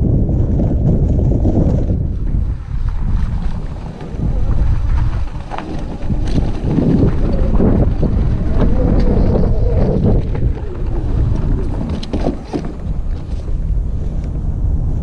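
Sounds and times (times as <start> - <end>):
wind rumbling on microphone: 0.0 - 15.0
bike knocks and rattles: 0.2 - 13.7.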